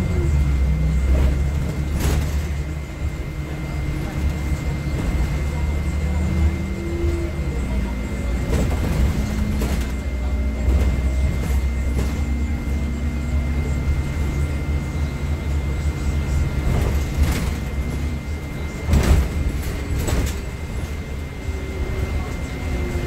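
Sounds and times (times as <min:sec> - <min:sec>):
bus engine and road rumble: 0:00.0 - 0:23.0
constant high whine: 0:00.0 - 0:23.0.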